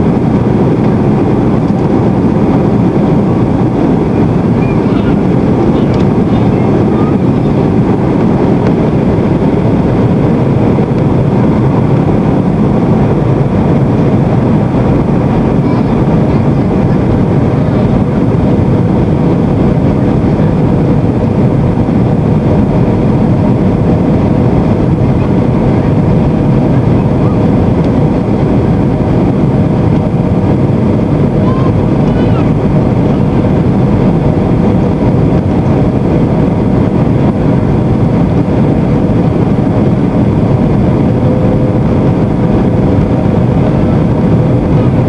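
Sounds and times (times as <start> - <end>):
airplane cabin engine rush: 0.0 - 45.0.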